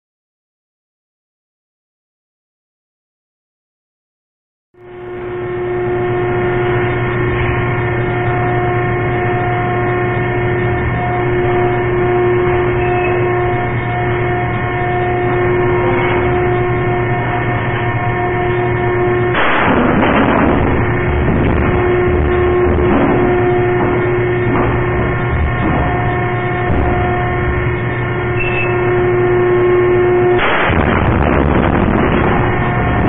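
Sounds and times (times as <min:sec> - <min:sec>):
machinery drone: 0:04.8 - 0:33.0.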